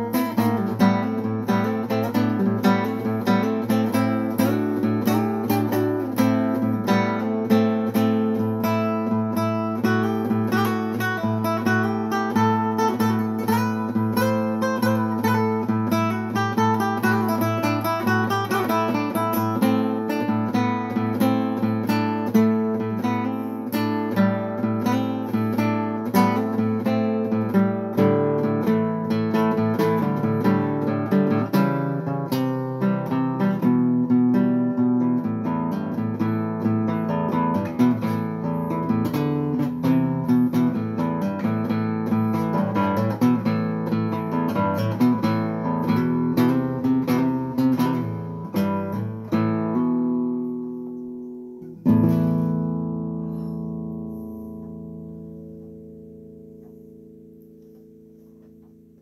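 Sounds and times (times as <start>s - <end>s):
plucked acoustic guitar music: 0.0s - 59.0s.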